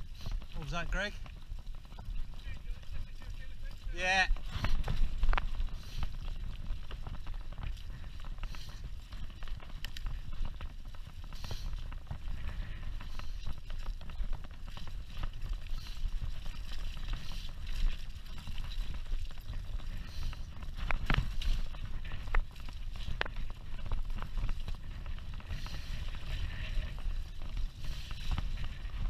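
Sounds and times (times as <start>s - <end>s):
bike rattling and knocking: 0.0s - 29.0s.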